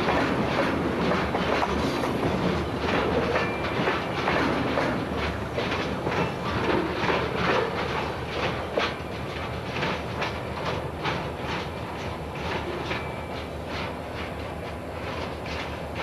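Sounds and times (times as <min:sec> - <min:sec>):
wheels clicking over rail joints: 0:00.0 - 0:16.0.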